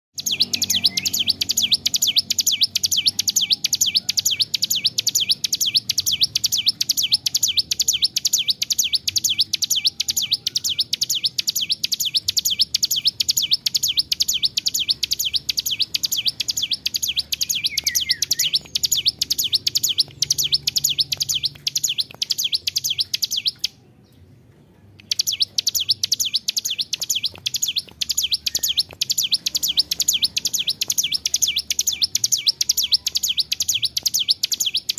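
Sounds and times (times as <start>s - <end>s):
bird singing rapid high notes: 0.2s - 24.0s, 25.0s - 34.9s.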